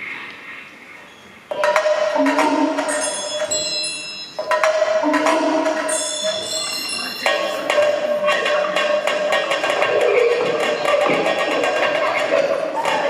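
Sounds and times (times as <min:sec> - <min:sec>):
held pitch: 0:01.5 - 0:13.0
ringing bell-like metallic tones: 0:01.5 - 0:13.0.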